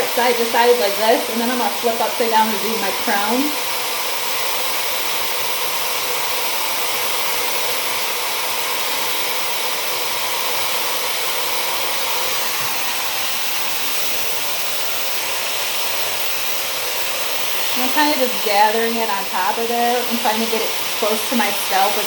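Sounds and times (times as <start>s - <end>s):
hair dryer blowing air: 0.0s - 22.0s.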